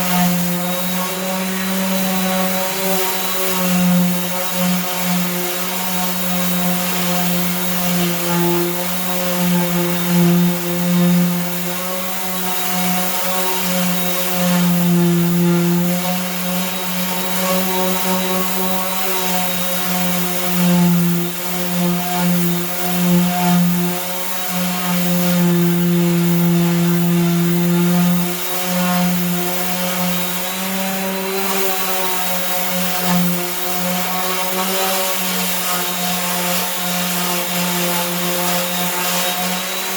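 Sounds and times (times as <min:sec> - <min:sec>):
power sander running: 0:00.0 - 0:39.9.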